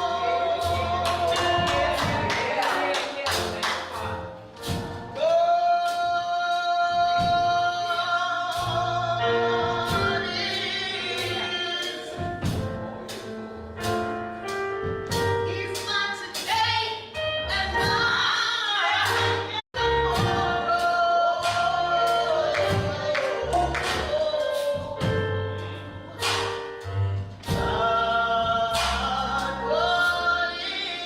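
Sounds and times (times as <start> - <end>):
gospel singing: 0.0 - 14.2, 15.5 - 31.0
steady drum beat: 0.0 - 31.0.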